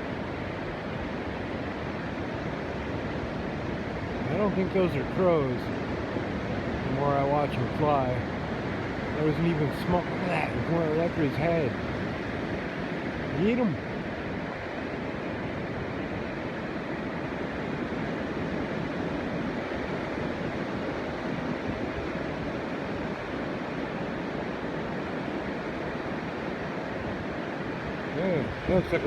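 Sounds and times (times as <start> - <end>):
steady rushing outdoor noise: 0.0 - 29.0.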